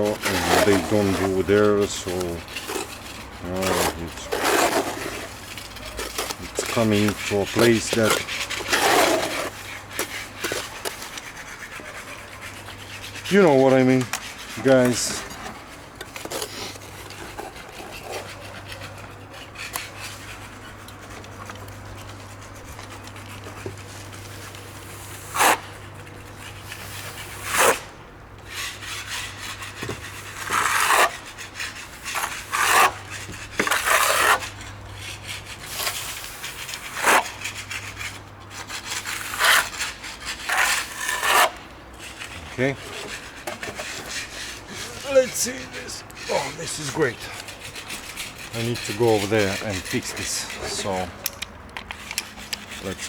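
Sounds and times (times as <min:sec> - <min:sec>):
scraping on a hard surface: 0:00.0 - 0:53.0.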